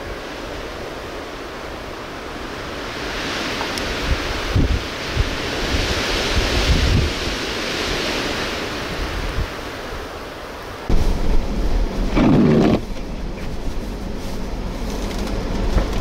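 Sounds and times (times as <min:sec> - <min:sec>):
strong wind gusting: 0:00.0 - 0:16.0
wind buffeting microphone: 0:00.0 - 0:16.0.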